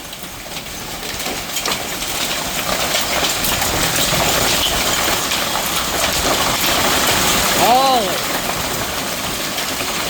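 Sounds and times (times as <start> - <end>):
hailstones hitting: 0.0 - 10.0
heavy rain: 0.0 - 10.0.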